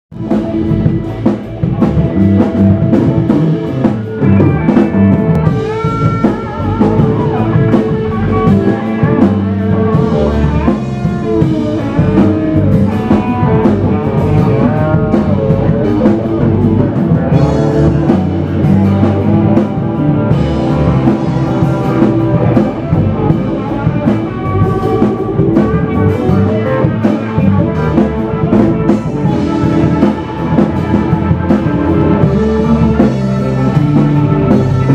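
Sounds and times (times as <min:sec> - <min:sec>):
drum kit steady beat: 0:00.1 - 0:34.9
electric bass: 0:00.1 - 0:34.9
electric guitar bending notes: 0:00.1 - 0:34.9.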